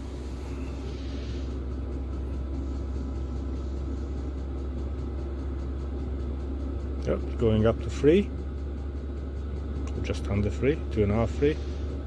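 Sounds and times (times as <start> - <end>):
diesel air heater rumbling: 0.0 - 12.0.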